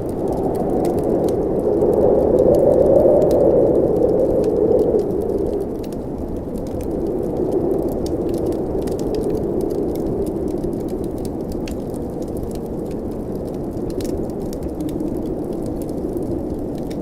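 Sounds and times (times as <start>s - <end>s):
blizzard wind: 0.0s - 17.0s
fireplace crackling: 0.0s - 17.0s.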